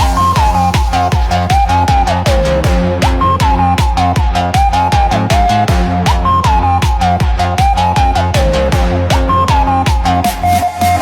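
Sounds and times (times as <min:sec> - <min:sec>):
electronic dance music: 0:00.0 - 0:11.0
pounding kick drum: 0:00.0 - 0:11.0.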